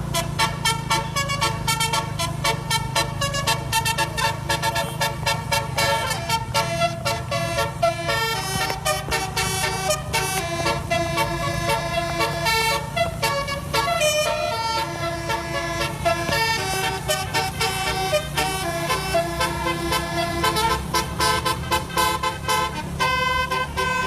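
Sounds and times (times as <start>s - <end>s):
multi-tone vehicle horn tune: 0.0s - 24.0s.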